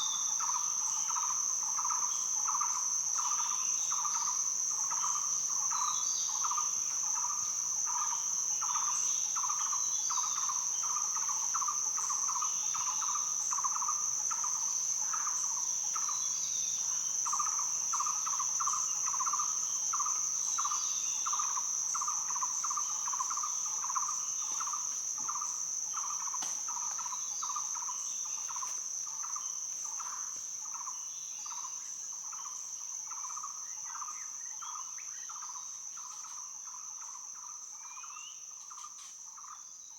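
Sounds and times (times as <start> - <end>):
high-pitched insect trill: 0.0 - 39.9
rhythmic insect chirping: 0.0 - 39.9.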